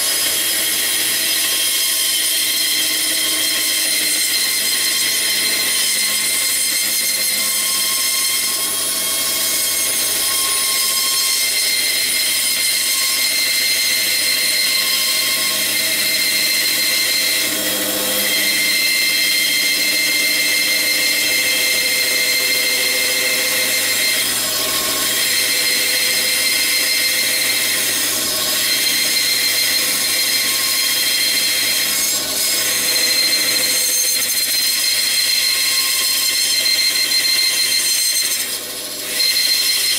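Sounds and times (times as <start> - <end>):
bandsaw cutting wood: 0.0 - 39.9.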